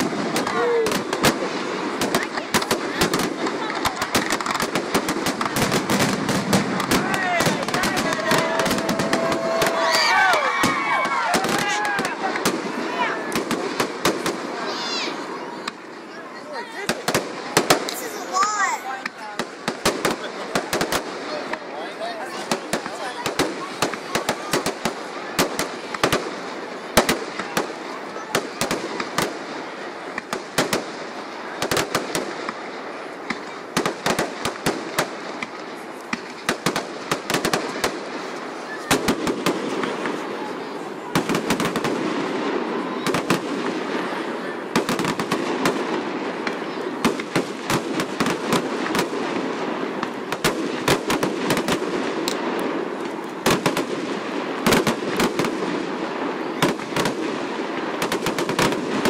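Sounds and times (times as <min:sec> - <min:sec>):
continuous rushing noise: 0:00.0 - 0:59.0
fireworks bangs and crackles: 0:00.0 - 0:59.0.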